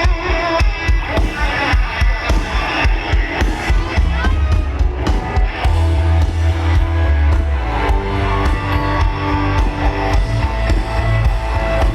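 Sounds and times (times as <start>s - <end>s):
drum kit: 0.0s - 11.9s
electric guitar: 0.0s - 11.9s
live country-rock band playing: 0.0s - 11.9s.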